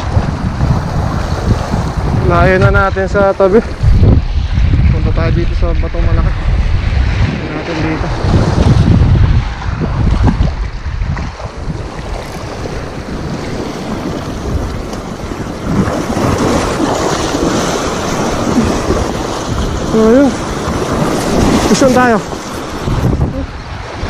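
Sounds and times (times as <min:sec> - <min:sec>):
waves splashing over rocks: 0:00.0 - 0:04.2, 0:06.0 - 0:24.0
wind buffeting microphone: 0:00.0 - 0:24.0.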